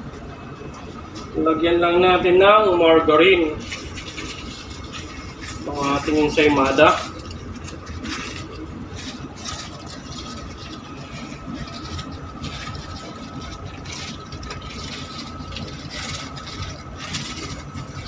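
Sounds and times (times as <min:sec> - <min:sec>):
machine hum with faint whine: 0:00.0 - 0:18.0
paper wrapper rubbing bread: 0:00.0 - 0:18.0.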